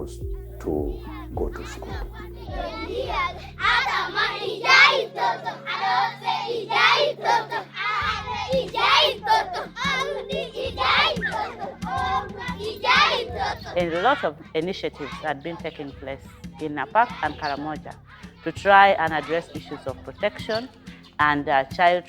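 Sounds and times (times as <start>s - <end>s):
children singing together: 0.0s - 21.2s
low background music: 0.0s - 22.0s.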